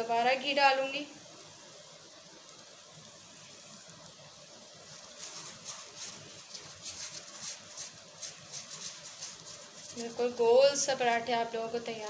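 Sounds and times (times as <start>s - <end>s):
faint steady hiss: 0.0s - 12.0s
ghee sizzling and crackling: 0.0s - 12.0s.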